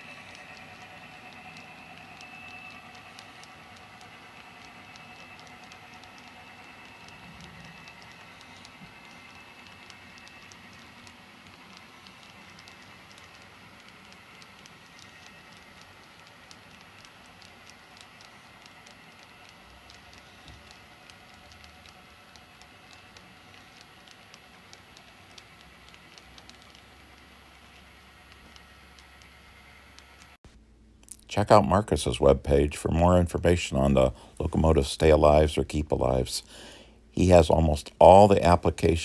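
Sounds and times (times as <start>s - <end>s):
faint high whine: 0.0s - 30.4s, 31.3s - 39.0s.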